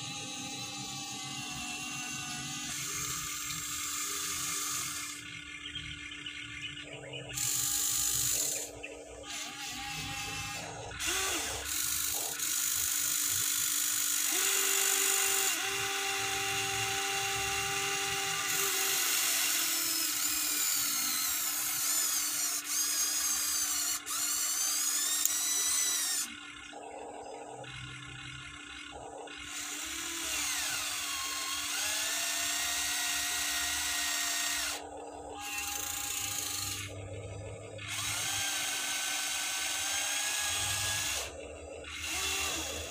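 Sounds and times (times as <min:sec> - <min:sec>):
small electric motors whirring: 0:00.0 - 0:06.6, 0:07.2 - 0:42.9.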